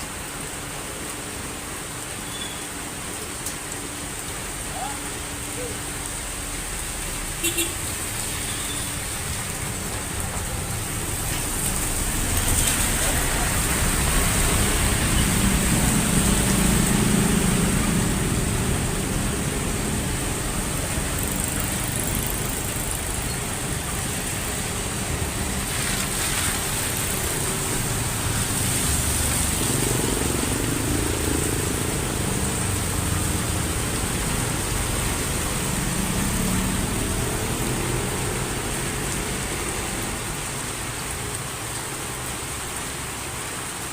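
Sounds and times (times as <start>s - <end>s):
heavy rain falling: 0.0s - 43.9s
vehicles passing on road: 0.0s - 43.9s.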